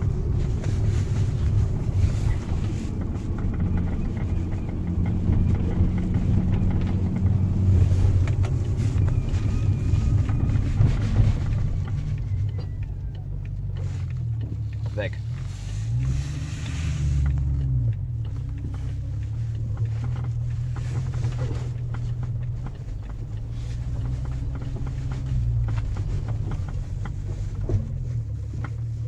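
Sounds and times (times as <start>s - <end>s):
car engine droning: 0.0s - 29.0s.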